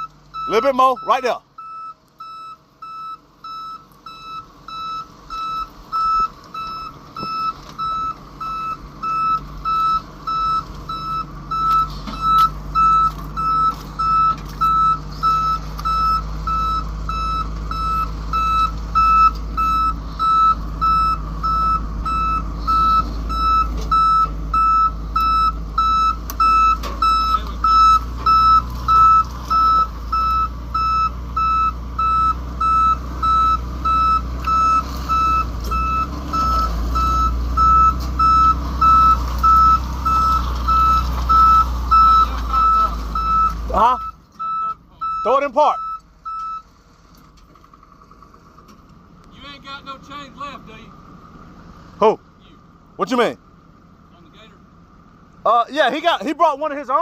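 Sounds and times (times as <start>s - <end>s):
reversing alarm beeping: 0.0s - 46.7s
heavy truck engine running: 0.0s - 57.0s.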